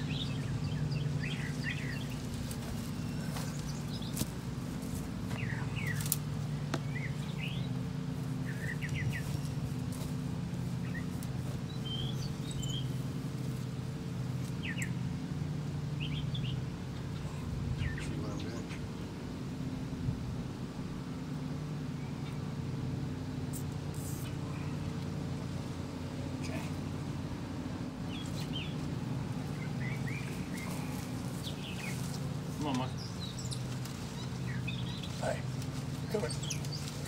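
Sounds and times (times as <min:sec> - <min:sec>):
low engine drone: 0:00.0 - 0:37.0
songbirds chirping: 0:00.0 - 0:37.0.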